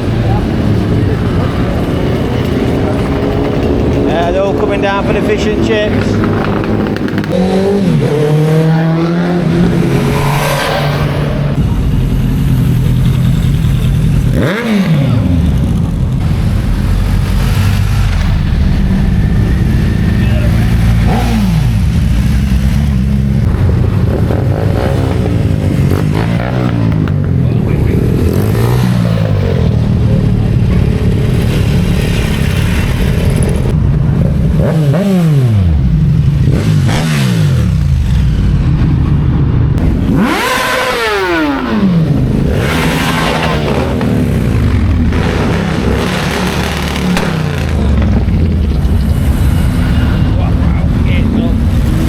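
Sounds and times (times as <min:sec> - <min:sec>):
motorcycle engines running: 0:00.0 - 0:52.0
motorcycles passing by: 0:00.0 - 0:52.0.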